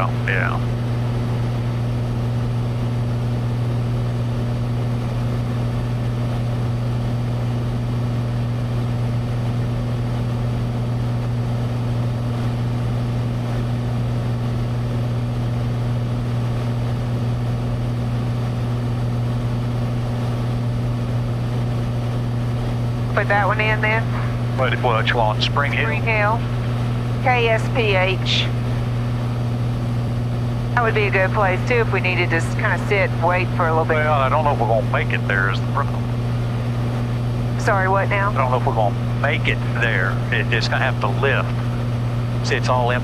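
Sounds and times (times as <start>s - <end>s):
propeller plane engine drone: 0.0s - 43.0s.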